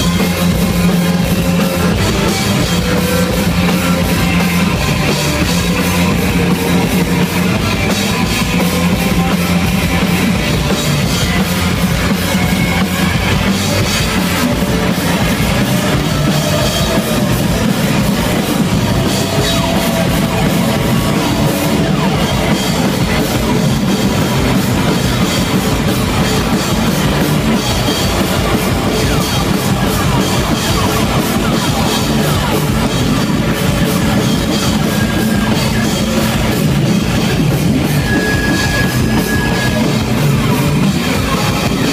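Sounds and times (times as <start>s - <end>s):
drum kit: 0.0s - 41.9s
electric guitars: 0.0s - 41.9s.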